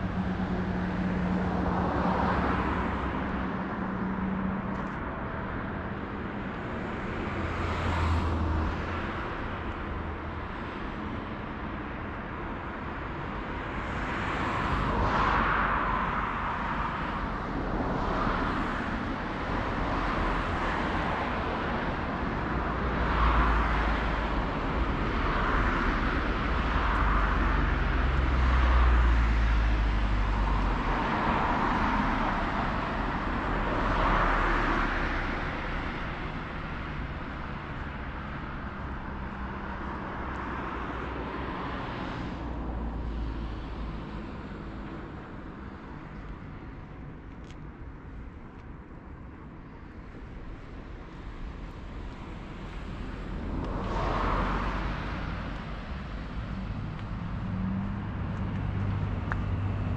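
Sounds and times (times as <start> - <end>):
low traffic rumble: 0.0 - 59.9
vehicles passing whooshes: 0.0 - 59.9.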